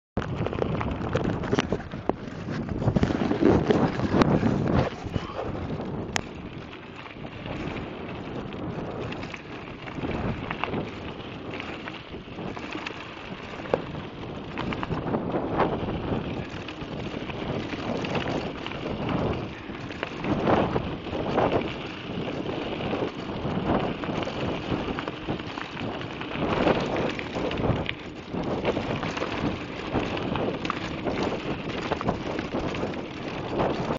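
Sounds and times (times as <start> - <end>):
bike rattling: 0.2 - 33.9
bike tyres crunching on gravel: 0.2 - 33.9.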